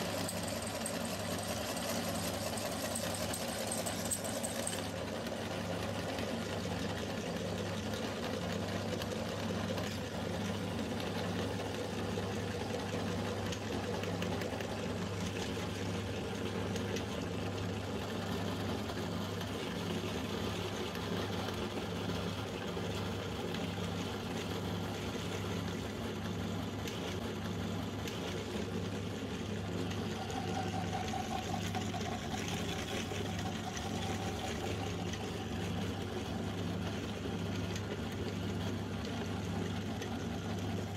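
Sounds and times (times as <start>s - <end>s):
meat grinder motor humming: 0.0s - 40.9s.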